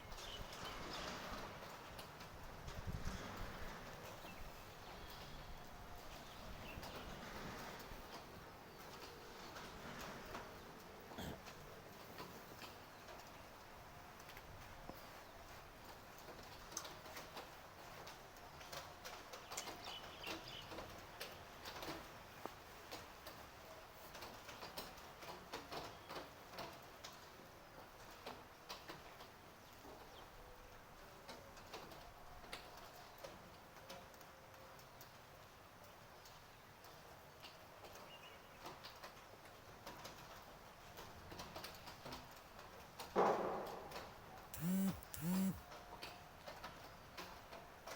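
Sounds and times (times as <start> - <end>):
light rain hiss: 0.0 - 43.2.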